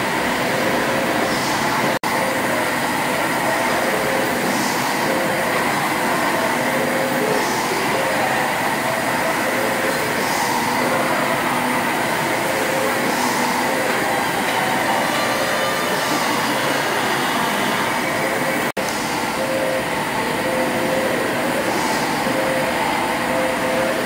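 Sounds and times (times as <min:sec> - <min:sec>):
steam engine clatter and hum: 0:00.0 - 0:24.0.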